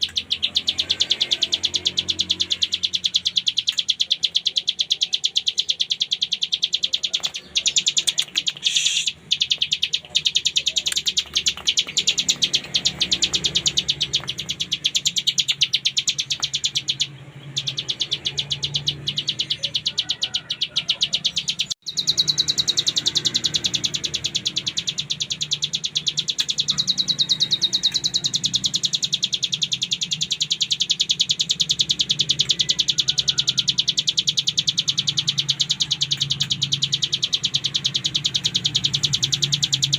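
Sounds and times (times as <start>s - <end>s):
bird singing fast rattling trill: 0.0s - 39.9s.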